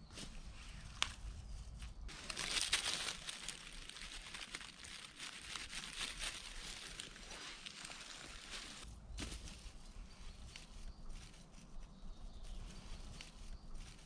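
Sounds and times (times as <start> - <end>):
grass and dry leaves rustling: 0.0 - 14.0.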